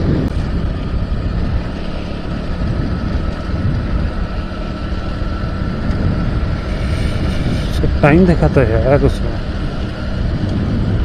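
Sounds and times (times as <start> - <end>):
motorcycle engine rumble: 0.0 - 11.0
wind noise on microphone: 0.0 - 11.0.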